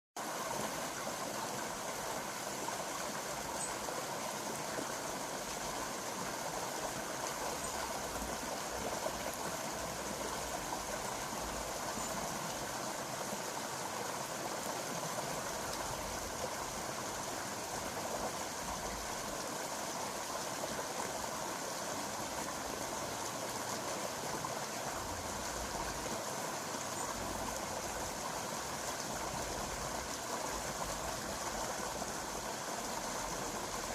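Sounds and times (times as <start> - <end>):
stream flowing: 0.2 - 33.9.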